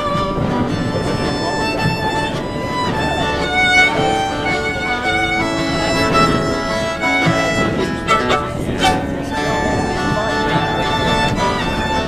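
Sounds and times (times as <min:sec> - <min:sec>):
fiddle bowing a melody: 0:00.0 - 0:12.0
guitar accompaniment: 0:00.0 - 0:12.0.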